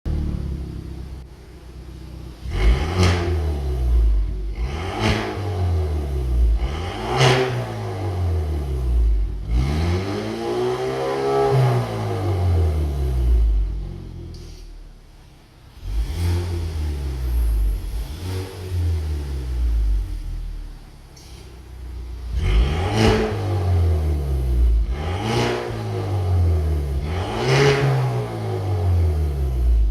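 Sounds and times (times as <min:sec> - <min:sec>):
car engine revving: 0:00.1 - 0:29.9.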